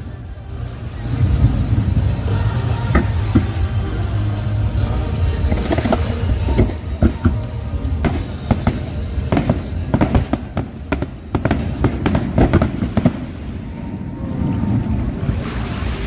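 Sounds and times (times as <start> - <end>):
low rumble: 0.0 - 16.0
fireworks bursting: 0.7 - 16.0.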